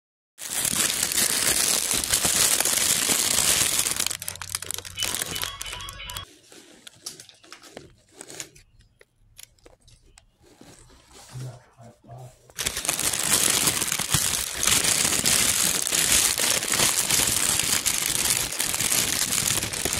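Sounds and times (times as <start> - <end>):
paper wrapper crinkling: 0.4 - 11.4, 12.4 - 19.9.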